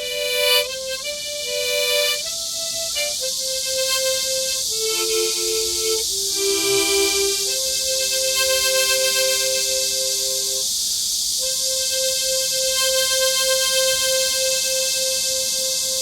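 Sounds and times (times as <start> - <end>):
harmonica playing slow melody: 0.0 - 10.6, 11.4 - 16.0
cicadas hissing: 0.0 - 16.0.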